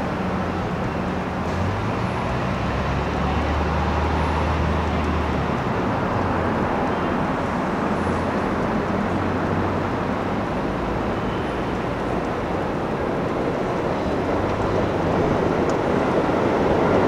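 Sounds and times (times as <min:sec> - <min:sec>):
city traffic noise: 0:00.0 - 0:17.0
elevated train rumbling on steel viaduct: 0:00.0 - 0:17.0.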